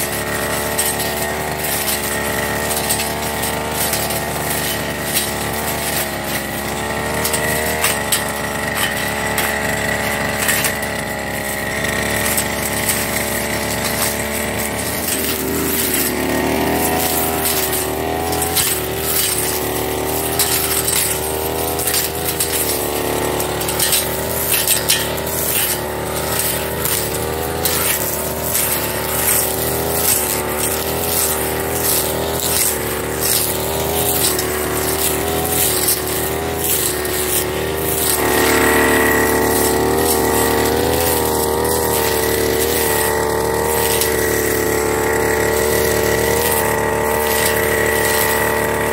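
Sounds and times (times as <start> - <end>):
blade cutting grass: 0.0 - 48.9
brush cutter engine running: 0.0 - 48.9.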